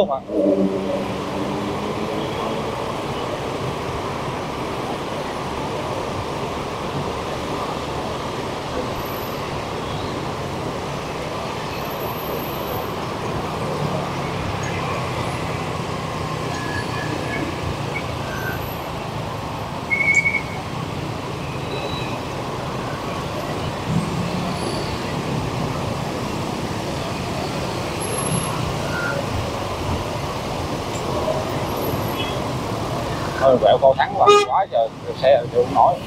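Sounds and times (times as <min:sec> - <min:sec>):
car engines: 0:00.0 - 0:36.0
motorbike engines: 0:00.0 - 0:36.0.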